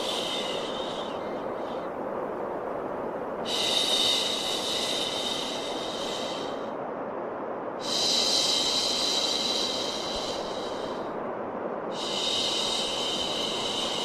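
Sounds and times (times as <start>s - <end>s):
white noise hiss: 0.0s - 14.0s.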